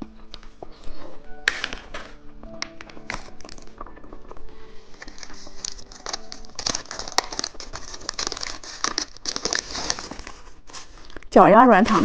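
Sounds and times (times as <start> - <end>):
plastic candy wrapper crinkling: 1.5 - 11.4.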